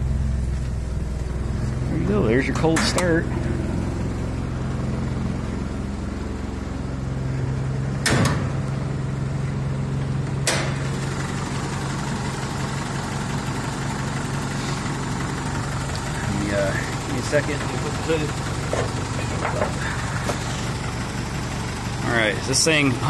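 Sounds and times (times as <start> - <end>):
pickup engine idling: 0.0 - 23.0.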